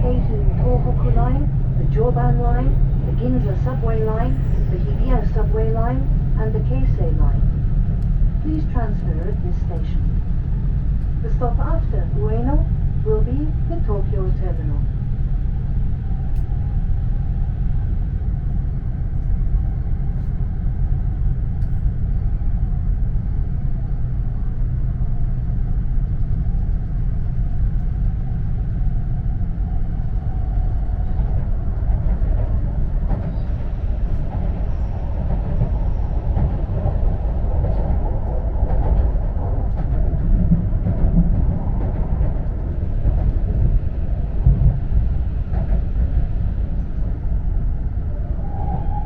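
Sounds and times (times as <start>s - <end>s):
train running low rumble: 0.0s - 49.0s.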